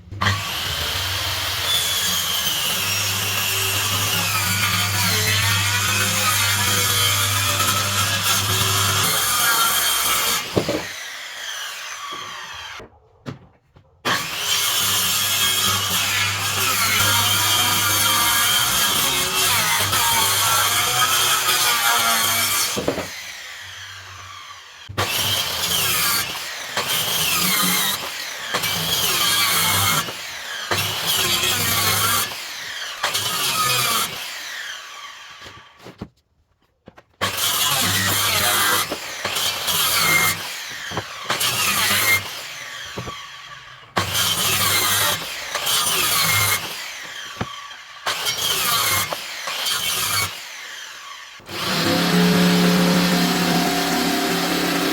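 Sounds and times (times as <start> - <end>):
power tool cutting wood: 0.0 - 12.8, 14.1 - 35.8, 37.2 - 54.9.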